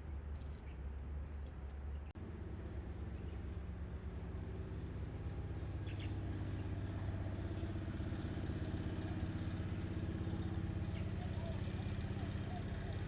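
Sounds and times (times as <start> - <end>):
engine idling: 2.1 - 13.0.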